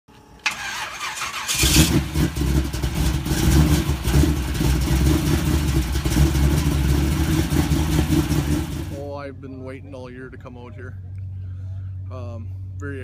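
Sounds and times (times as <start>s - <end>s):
car engine rumbling: 0.4s - 13.0s.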